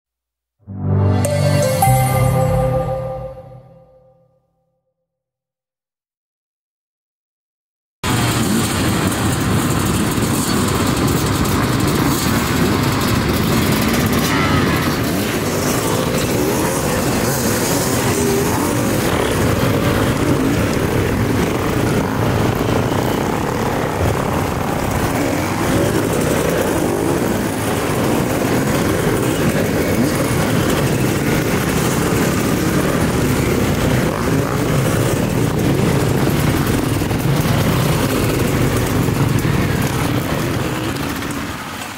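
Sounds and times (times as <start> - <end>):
dirt bikes revving: 8.1 - 41.9.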